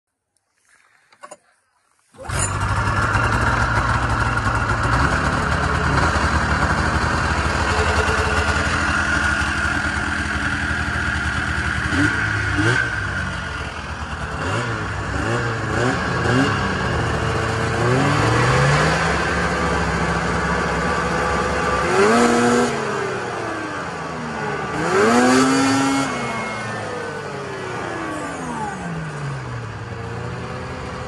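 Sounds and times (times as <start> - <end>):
snowmobile engine idling: 2.1 - 31.0
snowmobile throttle revs: 2.2 - 31.0.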